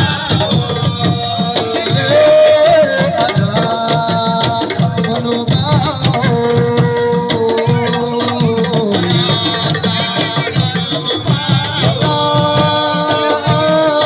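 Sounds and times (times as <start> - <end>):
fast hand drum rhythm: 0.0 - 14.0.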